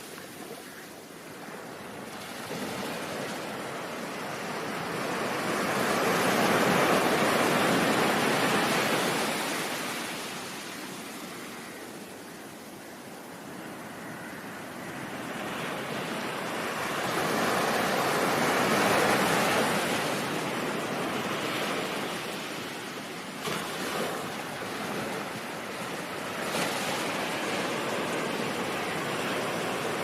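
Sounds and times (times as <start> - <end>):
ocean waves washing on shore: 0.0 - 30.0.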